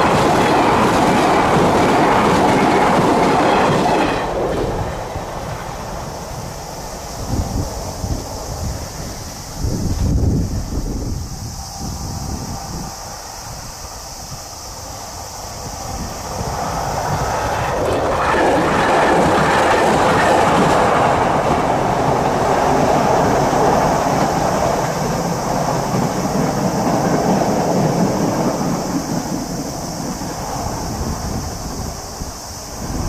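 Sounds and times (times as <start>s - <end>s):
train crossing steel bridge: 0.0s - 33.0s.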